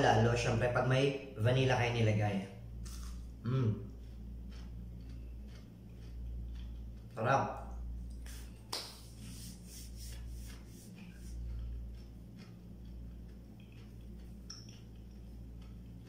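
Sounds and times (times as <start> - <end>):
chewing crunchy fried dough: 2.6 - 16.0.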